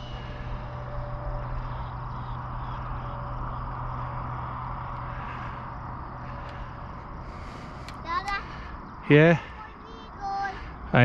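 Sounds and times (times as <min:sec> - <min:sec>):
low steady hum: 0:00.0 - 0:11.0
vehicle passing on road: 0:00.0 - 0:11.0.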